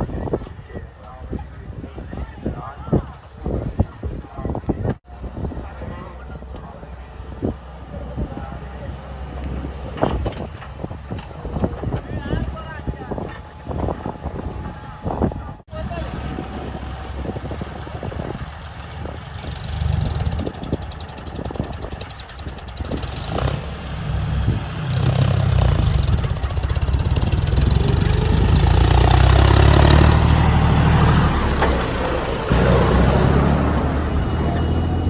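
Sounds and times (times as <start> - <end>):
diesel engine droning: 5.1 - 35.0.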